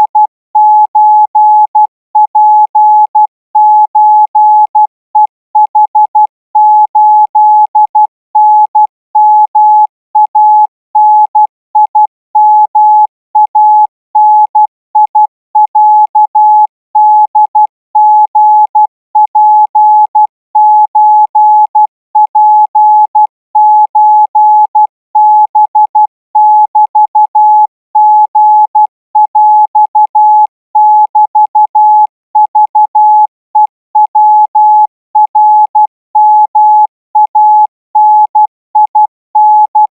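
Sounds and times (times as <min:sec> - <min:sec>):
morse code beeps: 0:00.0 - 0:27.4, 0:28.0 - 0:39.9.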